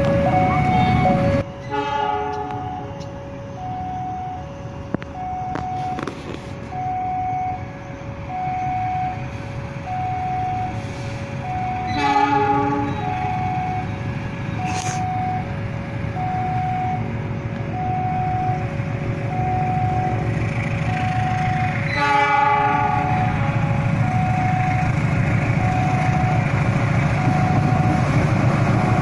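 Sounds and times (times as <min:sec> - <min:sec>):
diesel locomotive horn: 0:00.0 - 0:29.0.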